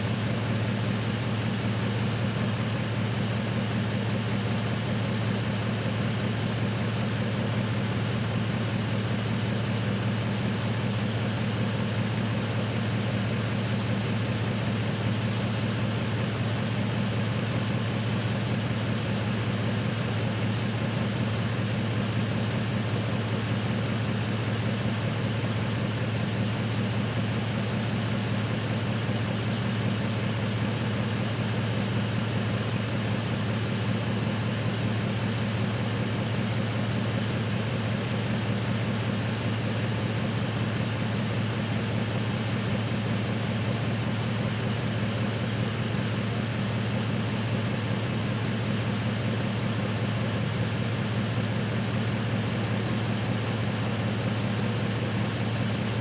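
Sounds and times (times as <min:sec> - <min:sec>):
truck engine idling: 0:00.1 - 0:56.0.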